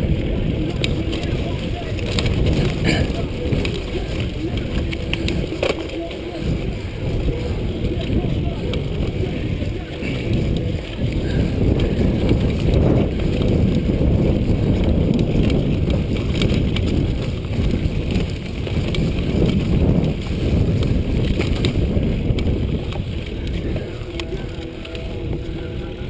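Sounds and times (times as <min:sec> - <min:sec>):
bike rattling and clicking: 0:00.0 - 0:26.0
bike tyre noise: 0:00.0 - 0:26.0
wind buffeting microphone: 0:00.0 - 0:26.0.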